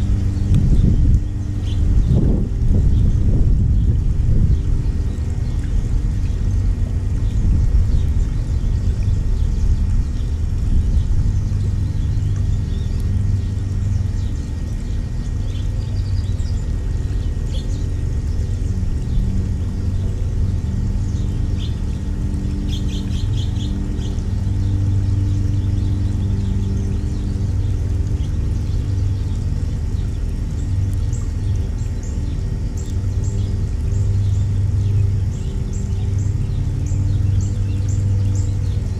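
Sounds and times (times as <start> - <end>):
songbird chirps: 0.0 - 38.9
steady low rumble: 0.0 - 38.9.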